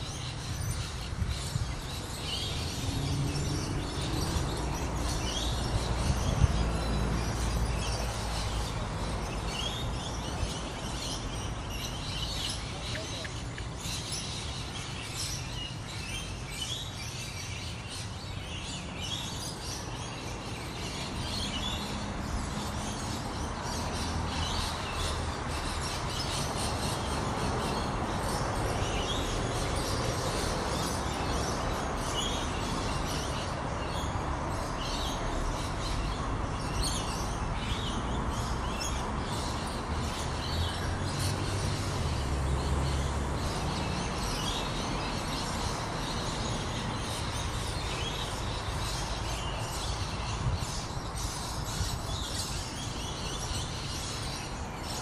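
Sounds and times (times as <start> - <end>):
birds chirping: 0.0 - 55.0
steady background noise: 0.0 - 55.0.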